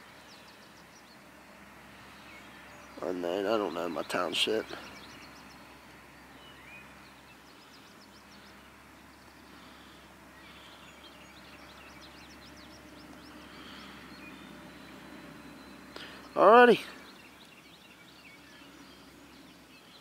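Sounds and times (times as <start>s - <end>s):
distant songbirds chirping: 0.0s - 20.0s.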